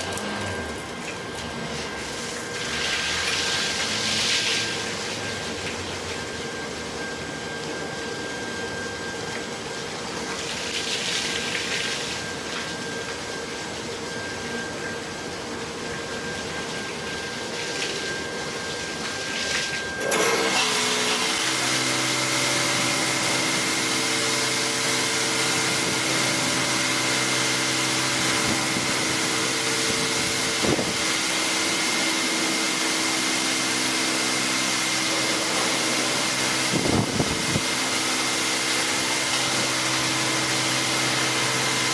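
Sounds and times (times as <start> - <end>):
high-pressure water jets spraying: 0.0 - 41.9
pump humming: 0.0 - 41.9.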